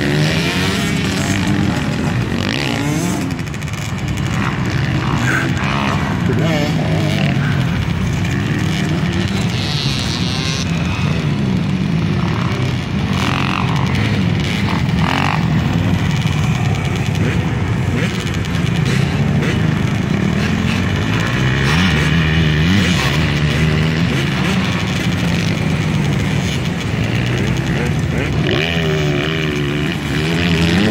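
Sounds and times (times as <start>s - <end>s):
dirt bike engines idling: 0.0s - 30.9s
dirt bikes buzzing on a track: 0.0s - 30.9s.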